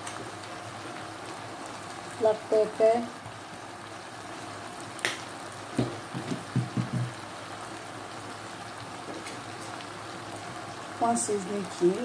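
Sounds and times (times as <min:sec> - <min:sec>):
pot simmering bubbling hiss: 0:00.0 - 0:12.0.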